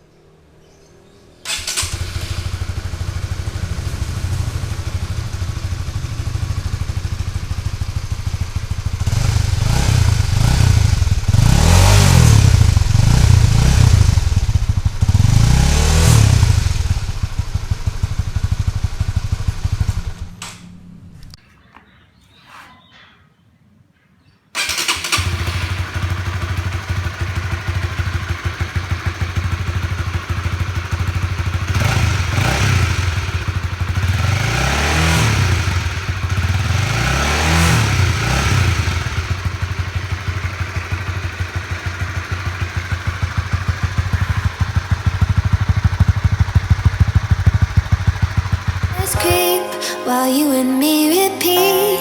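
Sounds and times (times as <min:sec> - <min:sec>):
motorcycle engine idling and revving: 0:00.0 - 0:21.4, 0:24.6 - 0:49.0.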